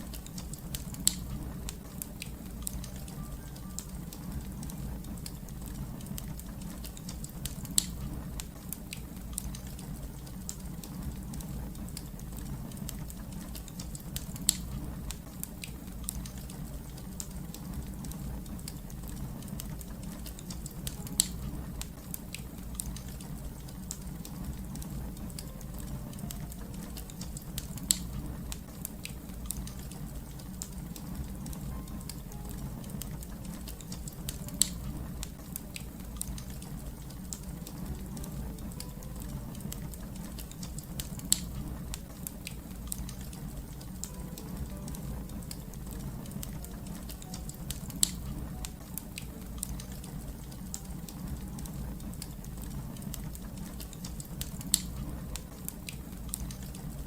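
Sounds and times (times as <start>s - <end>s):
sharp fire pops: 0.0s - 3.2s, 4.7s - 16.7s, 17.5s - 44.1s, 49.0s - 57.0s
low rumble of flames: 0.0s - 57.0s
small fire snaps: 0.0s - 57.0s.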